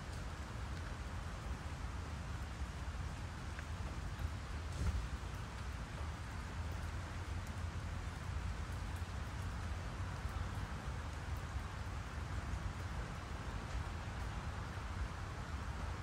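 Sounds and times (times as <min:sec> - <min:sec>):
faint drip ticks: 0:00.0 - 0:15.7
steady rain hiss: 0:00.0 - 0:16.0.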